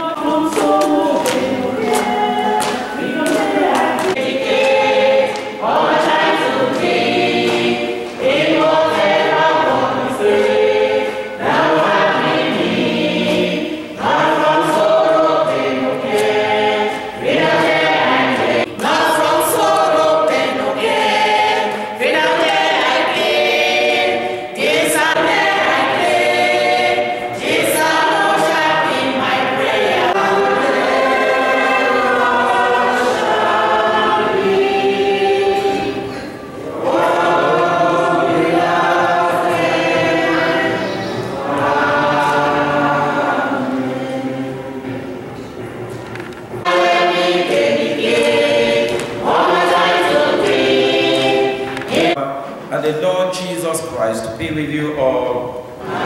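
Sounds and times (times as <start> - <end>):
choir singing a hymn: 0.0 - 52.6, 53.8 - 56.0.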